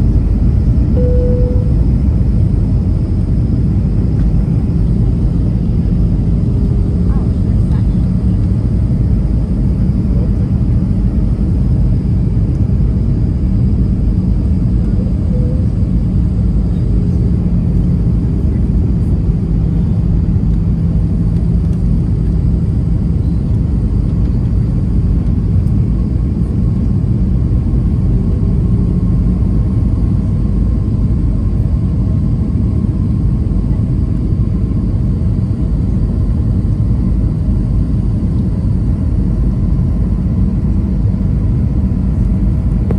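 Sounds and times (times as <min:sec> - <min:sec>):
faint steady hums: 0:00.0 - 0:42.9
jet engine rumble in cabin: 0:00.0 - 0:42.9.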